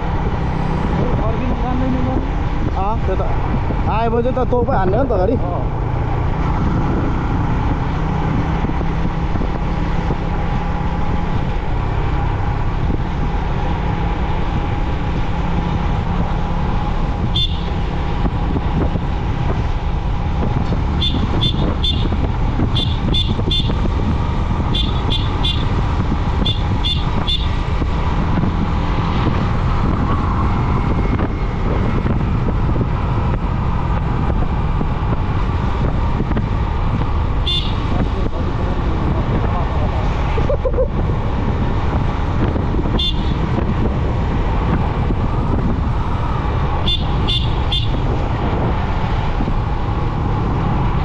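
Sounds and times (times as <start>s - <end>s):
wind and road noise: 0.0s - 51.0s.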